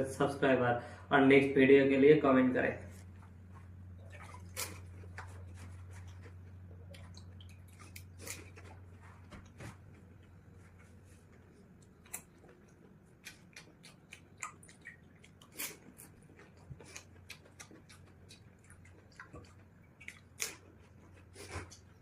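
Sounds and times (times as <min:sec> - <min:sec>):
steady low hum: 0:00.0 - 0:22.0
crunchy chewing: 0:02.9 - 0:22.0.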